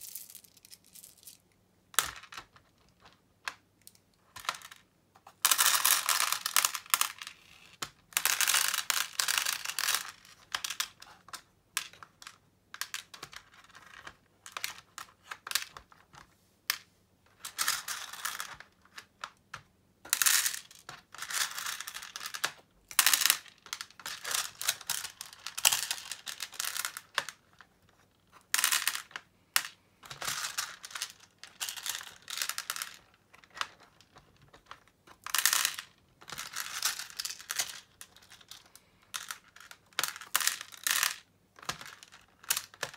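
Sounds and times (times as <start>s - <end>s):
plastic beads clicking and rattling: 0.0s - 4.8s, 5.4s - 16.0s, 16.7s - 19.4s, 20.0s - 42.9s.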